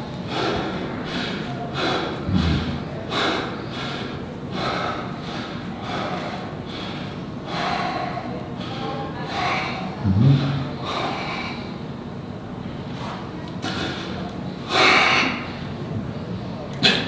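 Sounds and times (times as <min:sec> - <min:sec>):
man breathing heavily: 0:00.0 - 0:12.0, 0:12.6 - 0:16.2.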